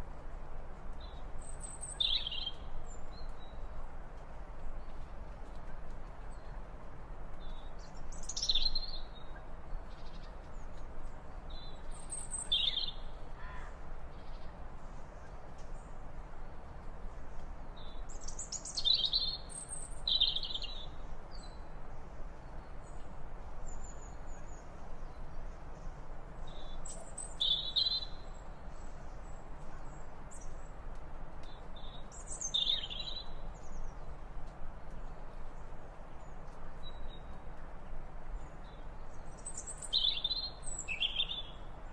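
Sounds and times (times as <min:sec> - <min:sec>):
faint steady hiss: 0:00.0 - 0:41.9.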